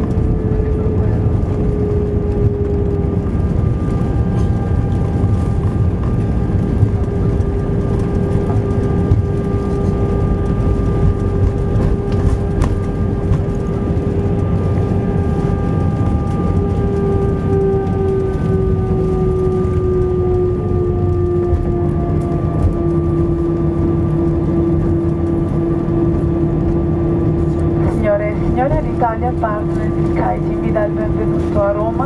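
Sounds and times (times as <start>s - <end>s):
jet engine whine: 0.0s - 32.0s
low rumble of engines and wheels: 0.0s - 32.0s.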